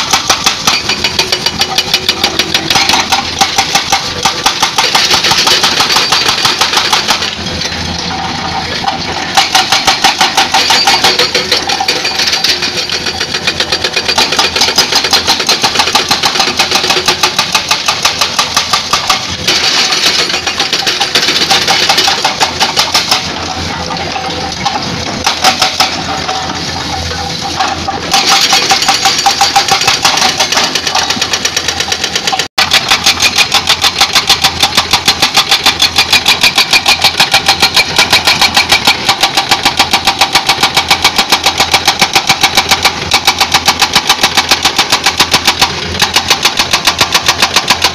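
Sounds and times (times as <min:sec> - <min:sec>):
excavator engine running: 0:00.0 - 0:47.9
hydraulic breaker hammering rock: 0:00.0 - 0:47.9.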